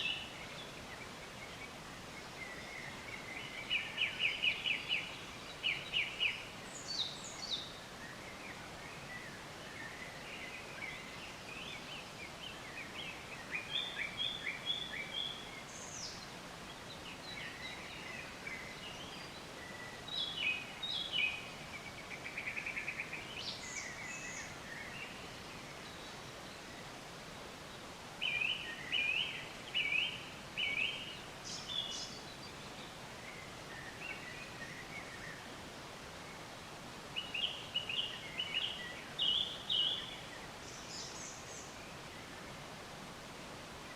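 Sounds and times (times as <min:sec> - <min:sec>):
songbirds singing: 0:00.0 - 0:43.9
steady background hiss: 0:00.0 - 0:43.9.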